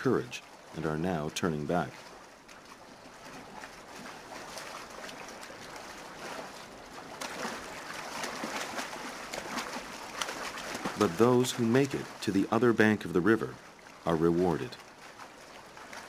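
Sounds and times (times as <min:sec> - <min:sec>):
animals splashing while swimming: 0:00.0 - 0:12.6, 0:13.4 - 0:16.0
river water rushing: 0:00.0 - 0:16.0.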